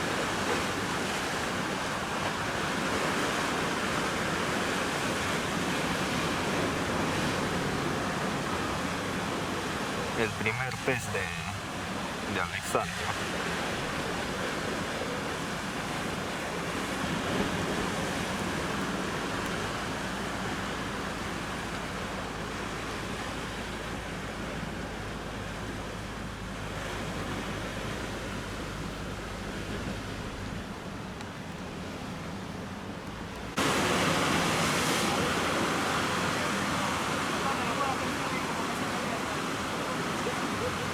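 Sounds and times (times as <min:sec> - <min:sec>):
ocean surf washing on beach: 0:00.0 - 0:40.9.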